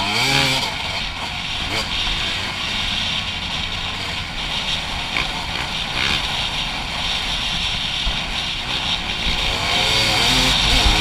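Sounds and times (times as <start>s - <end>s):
dirt bike engine: 0.0s - 11.0s
wind and road noise: 0.0s - 11.0s.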